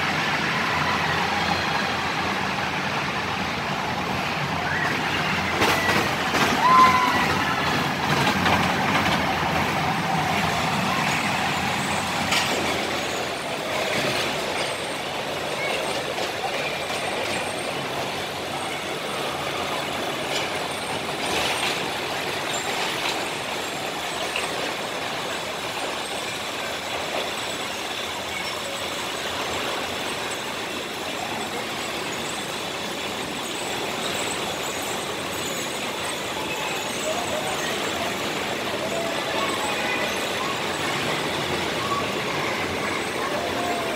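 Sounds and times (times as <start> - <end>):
roller coaster rumbling on track: 0.0 - 43.9.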